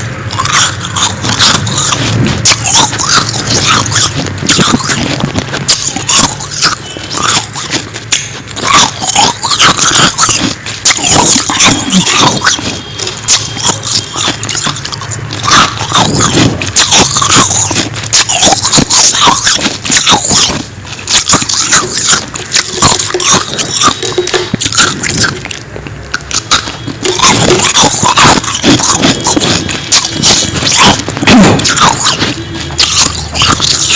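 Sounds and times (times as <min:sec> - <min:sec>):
chewing frost crunches: 0:00.0 - 0:33.9.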